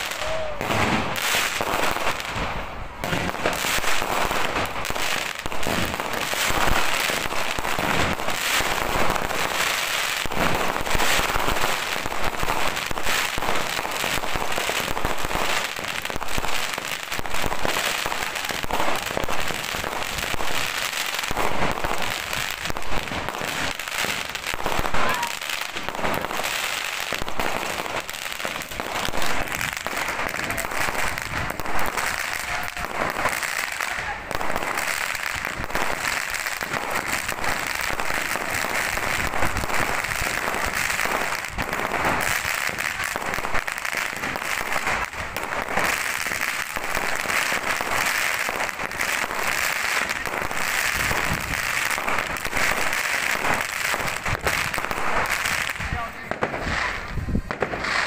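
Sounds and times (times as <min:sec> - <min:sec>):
firecrackers crackling: 0:00.0 - 0:58.0
loud firework bangs: 0:00.0 - 0:58.0.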